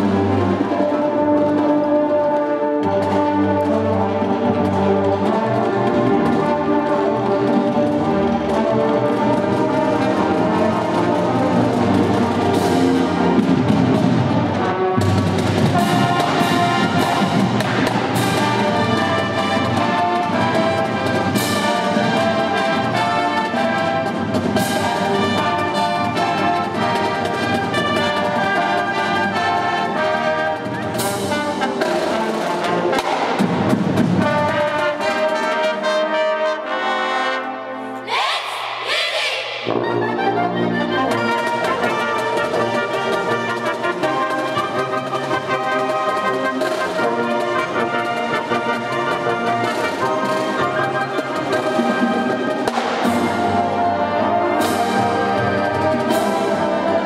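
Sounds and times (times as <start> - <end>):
marching band brass: 0.0 - 57.0.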